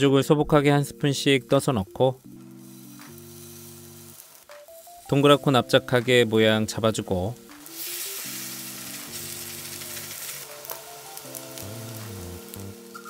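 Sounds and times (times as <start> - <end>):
soft background music: 0.0 - 13.0
patties sizzling in oil: 0.9 - 13.0.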